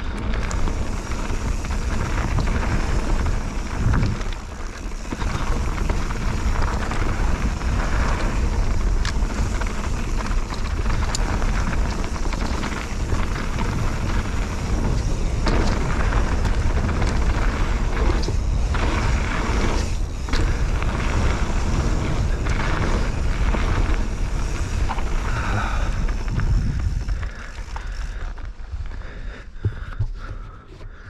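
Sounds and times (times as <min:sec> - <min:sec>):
bike knocking and rattling: 0:00.0 - 0:31.0
bike tyres on stone: 0:00.0 - 0:31.0.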